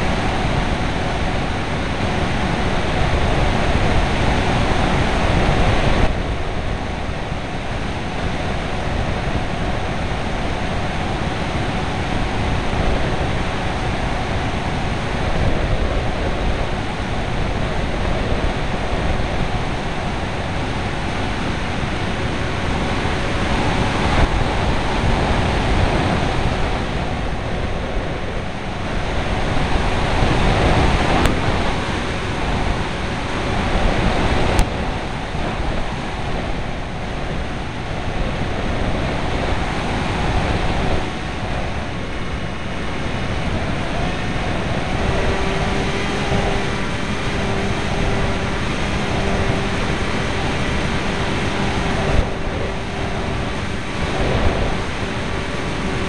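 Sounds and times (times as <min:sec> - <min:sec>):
propeller motor humming: 0:00.0 - 0:56.0
wind rushing over microphone: 0:00.0 - 0:56.0.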